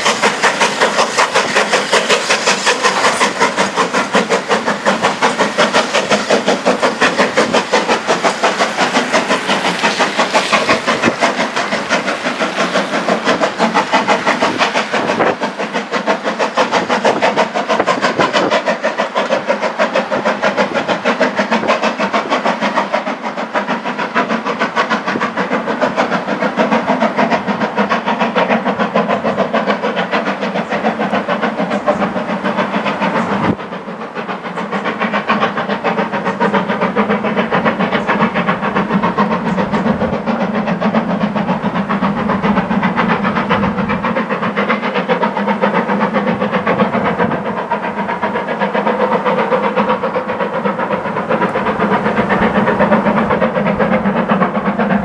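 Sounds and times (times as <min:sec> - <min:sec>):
steam hissing: 0:00.0 - 0:55.0
steam locomotive exhaust beat: 0:00.0 - 0:55.0.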